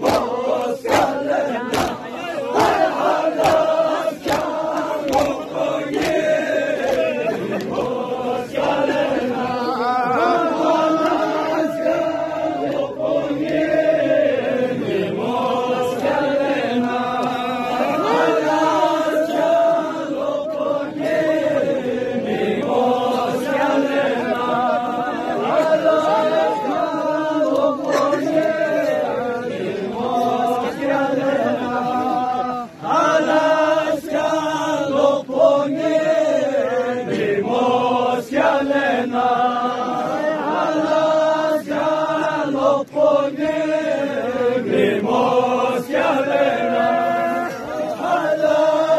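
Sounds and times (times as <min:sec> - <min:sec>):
voices chanting a lament: 0:00.0 - 0:48.9.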